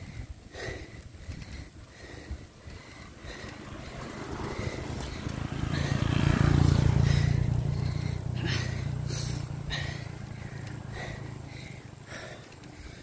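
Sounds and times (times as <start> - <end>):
road noise while riding: 0.0 - 13.0
vehicle engine humming: 0.0 - 13.0.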